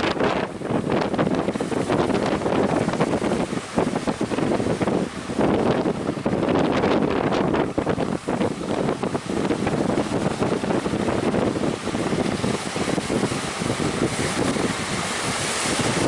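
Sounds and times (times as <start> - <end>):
breaking surf: 0.0 - 16.0
wind buffeting microphone: 0.0 - 16.0.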